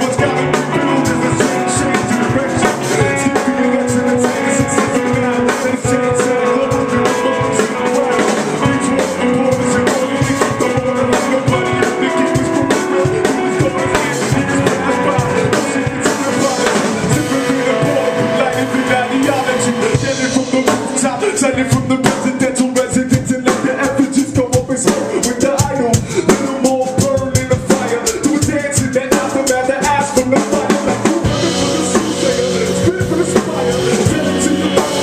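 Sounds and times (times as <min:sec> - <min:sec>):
drum kit steady beat: 0:00.0 - 0:35.0.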